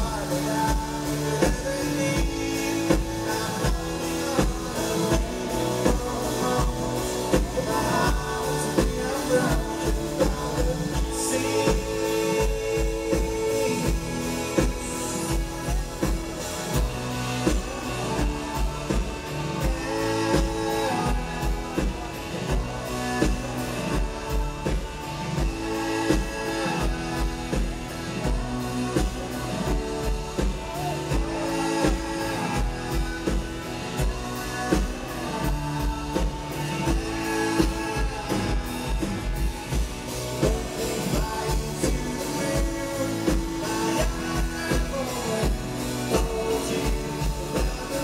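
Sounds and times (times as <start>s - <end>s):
live rock band playing: 0.0s - 48.0s.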